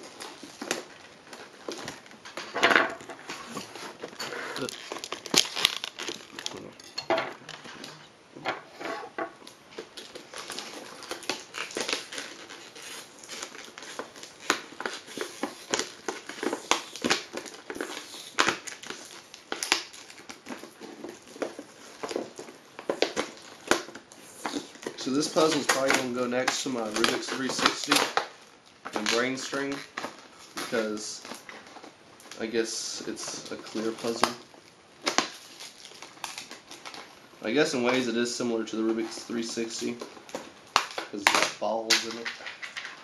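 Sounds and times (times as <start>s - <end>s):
plastic packaging crinkling: 0.0s - 8.1s, 9.3s - 43.0s.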